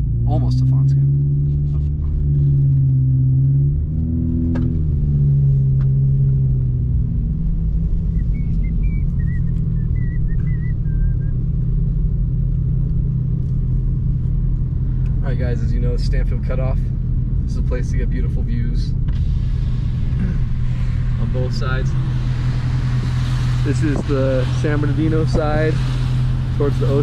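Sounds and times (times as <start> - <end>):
car engine inside moving car: 0.0 - 27.0.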